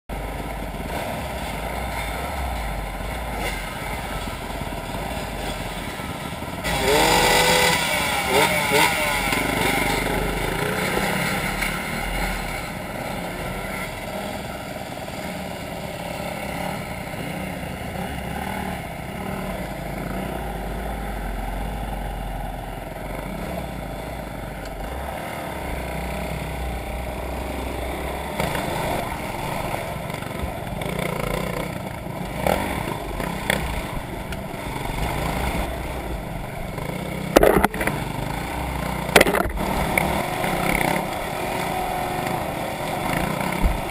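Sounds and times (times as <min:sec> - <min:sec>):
motorcycle engines revving: 0:00.1 - 0:43.9.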